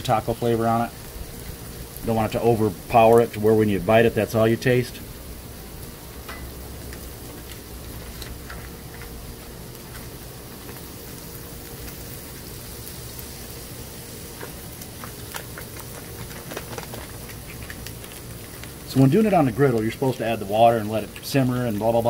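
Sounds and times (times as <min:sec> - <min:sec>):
ground beef sizzling on a griddle: 0:00.0 - 0:22.0.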